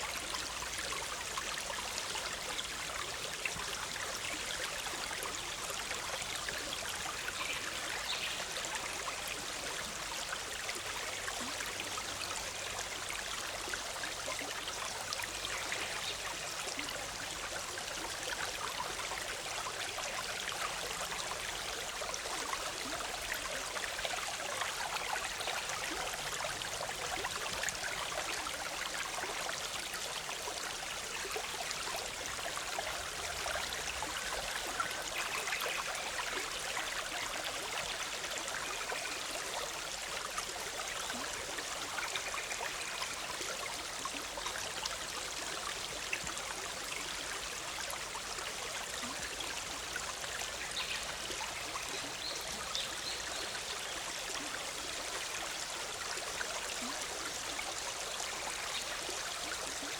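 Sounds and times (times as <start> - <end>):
stream bubbling over rocks: 0.0 - 59.9.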